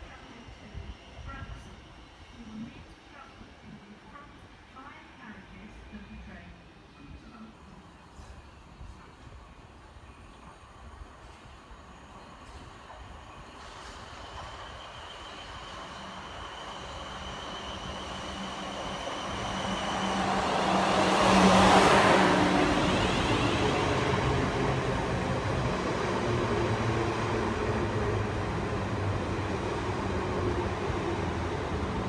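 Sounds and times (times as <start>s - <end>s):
electric train passing: 0.0s - 32.0s.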